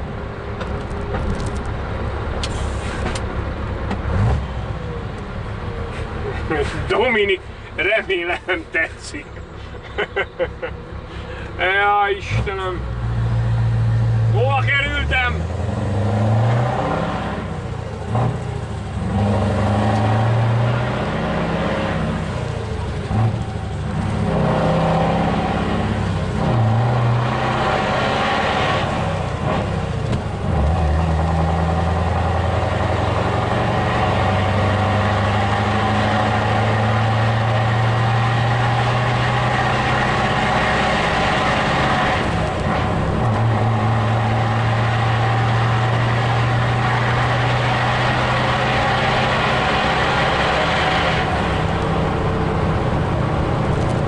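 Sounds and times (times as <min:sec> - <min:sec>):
truck diesel engine: 0:00.0 - 0:54.0.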